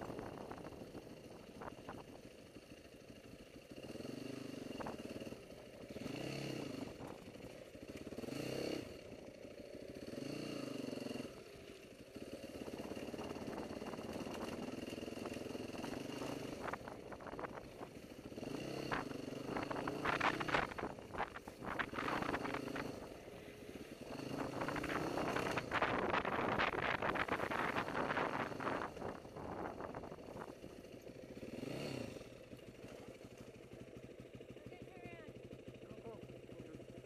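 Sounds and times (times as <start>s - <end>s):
dirt bike engine revving: 3.6s - 37.0s.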